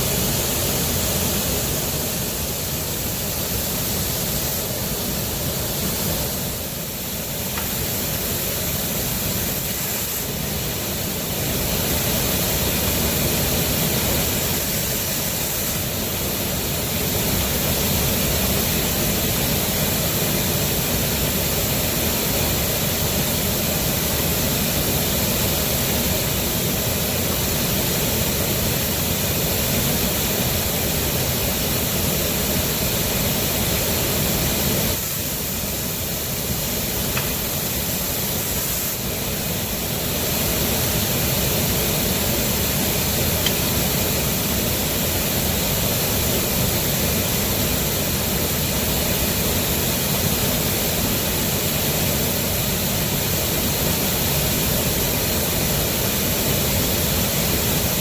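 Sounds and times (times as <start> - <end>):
machine running with rushing noise: 0.0 - 58.0.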